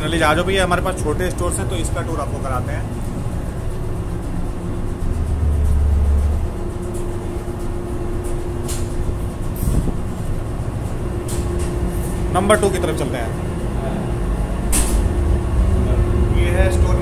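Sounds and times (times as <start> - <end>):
mid-pitched hum: 0.0 - 17.0
ship machinery rumble: 0.0 - 17.0.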